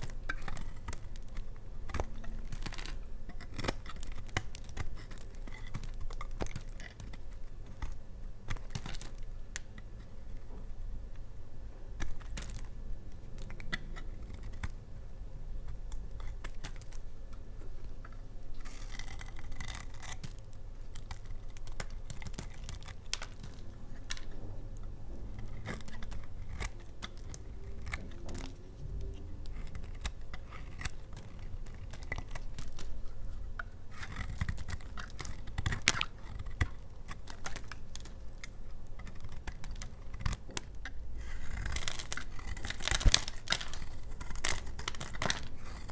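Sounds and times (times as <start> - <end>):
blade cutting soap: 0.0 - 10.6, 12.0 - 45.9.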